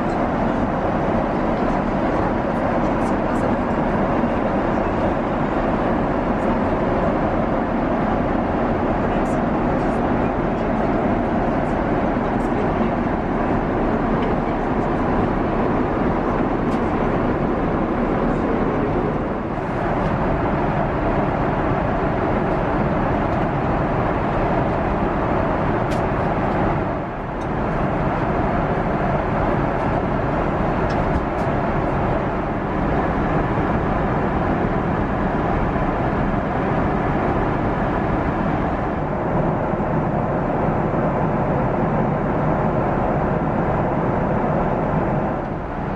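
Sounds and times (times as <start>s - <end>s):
airliner cabin noise: 0.0s - 45.9s.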